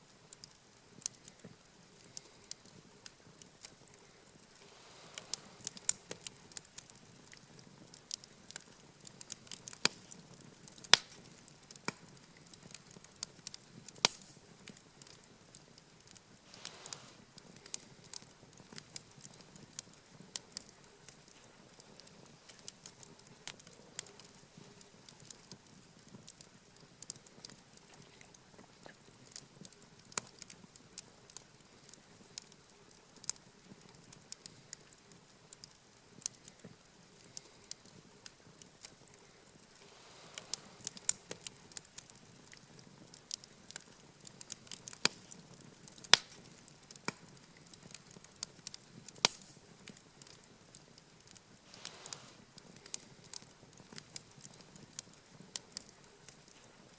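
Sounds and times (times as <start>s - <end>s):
campfire crackling and popping: 0.0s - 56.9s
faint hiss: 0.0s - 56.9s.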